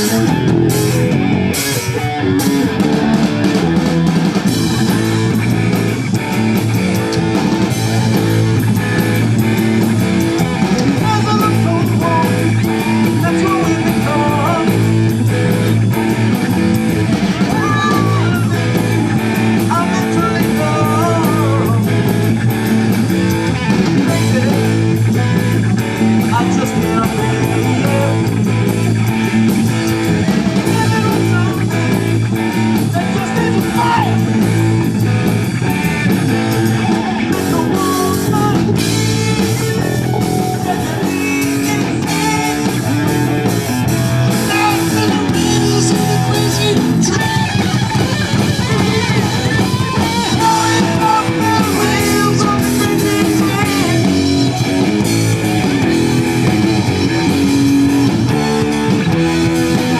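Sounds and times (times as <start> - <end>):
bending lead guitar lines: 0.0 - 59.9
live rock band playing: 0.0 - 59.9.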